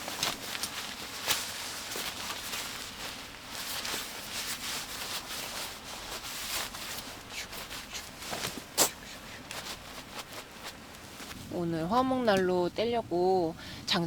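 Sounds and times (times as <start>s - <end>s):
soft rustling and handling: 0.0s - 14.0s.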